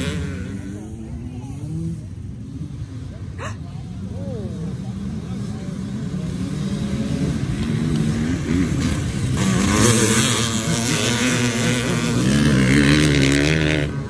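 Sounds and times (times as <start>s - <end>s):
dirt bikes revving past: 0.0s - 14.0s.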